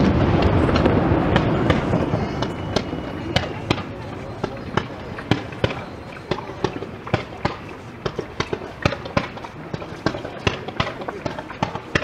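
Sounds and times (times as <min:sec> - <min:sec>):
fireworks barrage bangs: 0:00.0 - 0:12.0.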